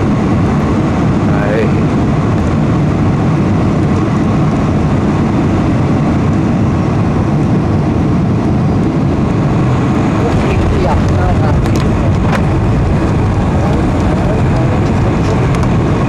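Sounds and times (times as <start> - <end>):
airliner cabin low rumble: 0.0 - 16.0.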